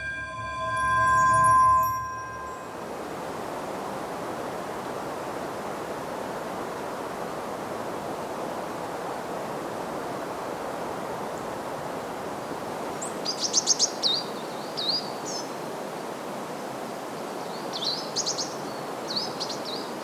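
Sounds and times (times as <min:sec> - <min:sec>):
steady wind blowing: 0:00.0 - 0:20.0.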